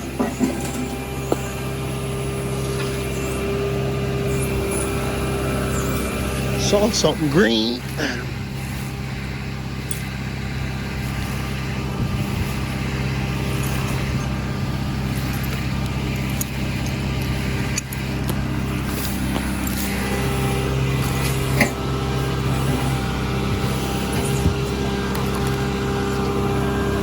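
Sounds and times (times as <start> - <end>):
digging machine engine running: 0.0 - 27.0.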